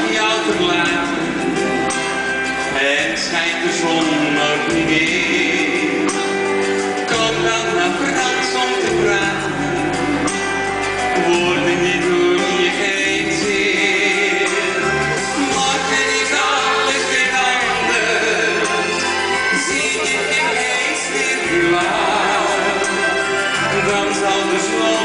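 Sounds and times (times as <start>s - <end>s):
live band playing pop song: 0.0s - 25.0s
man singing lead vocals: 0.0s - 25.0s.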